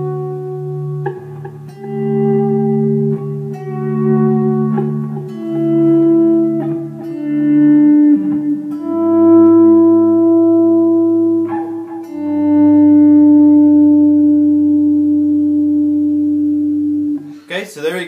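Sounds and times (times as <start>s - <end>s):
electric guitar chords with echo: 0.0s - 17.5s.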